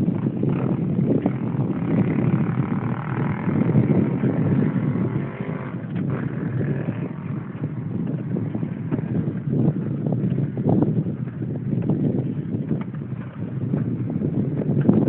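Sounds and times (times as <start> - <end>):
bike rattling over rough trail: 0.0 - 15.0
wind on microphone: 0.0 - 15.0.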